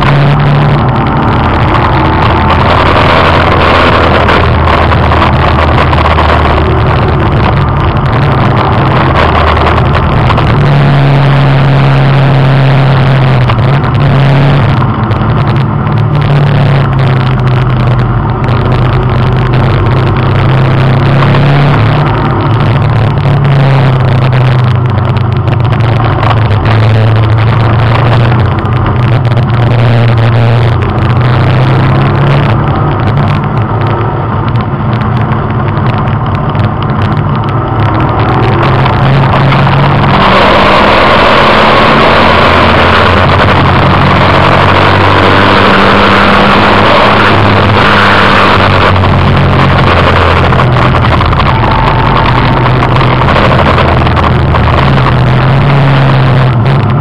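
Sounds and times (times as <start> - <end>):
race car engine under load: 0.0 - 57.0
wind and road noise: 0.0 - 57.0.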